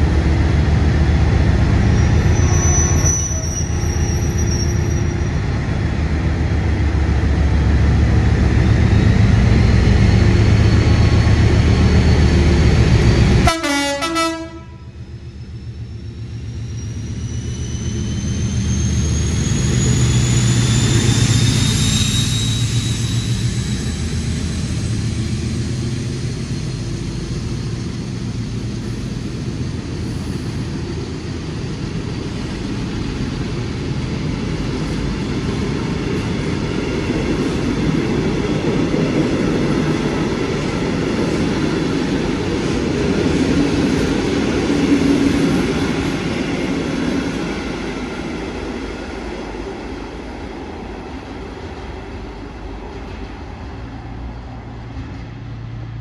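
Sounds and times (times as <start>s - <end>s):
diesel locomotive engine passing: 0.0s - 56.0s.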